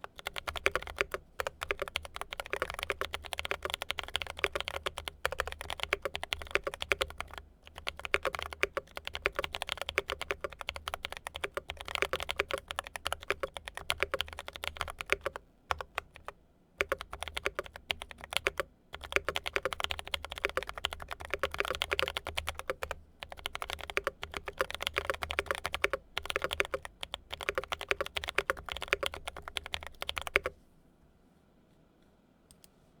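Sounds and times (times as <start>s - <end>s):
fast typing on mechanical keyboard: 0.0s - 30.5s.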